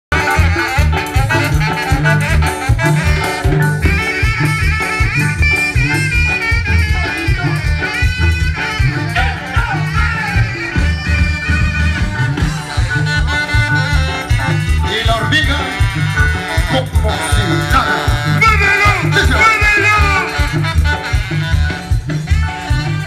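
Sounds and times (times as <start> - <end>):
brass band playing: 0.1 - 23.0
sousaphone bass line: 0.1 - 23.0.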